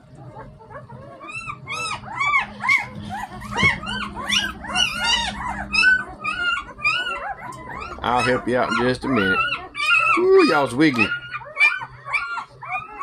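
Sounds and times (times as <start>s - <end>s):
puppies squeaking and whining: 0.0s - 13.0s.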